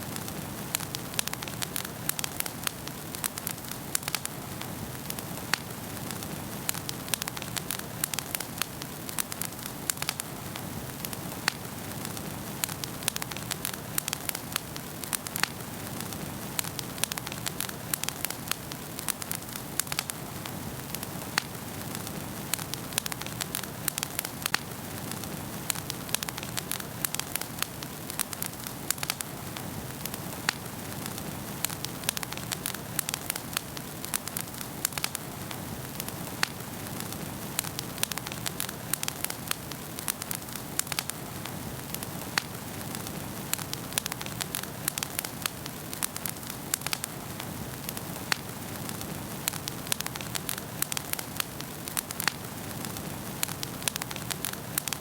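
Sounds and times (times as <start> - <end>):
wood fire crackling and popping: 0.0 - 55.0
rush of flames: 0.1 - 55.0.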